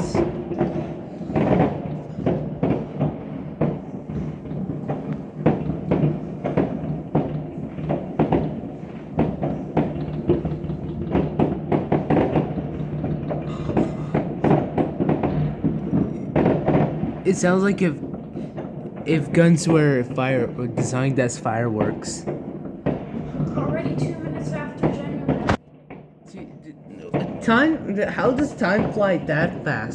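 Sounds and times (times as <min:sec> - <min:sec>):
fireworks and firecrackers banging: 0:00.0 - 0:29.9.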